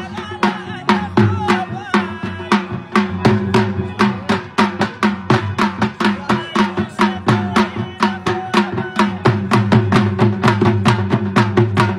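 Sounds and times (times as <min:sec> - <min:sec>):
drum beating fast rhythm: 0:00.0 - 0:11.9.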